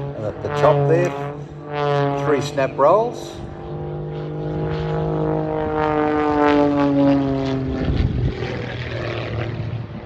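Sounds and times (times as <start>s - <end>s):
biplane engine and propeller drone: 0.0s - 10.0s.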